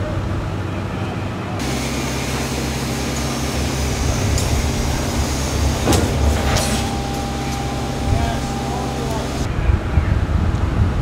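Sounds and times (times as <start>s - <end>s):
heavy machinery humming: 0.0s - 9.8s.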